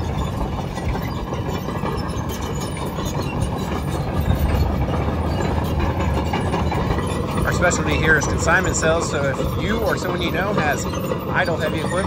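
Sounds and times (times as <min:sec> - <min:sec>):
diesel engine low rumble: 0:00.0 - 0:12.0
excavator tracks rolling: 0:00.0 - 0:12.0.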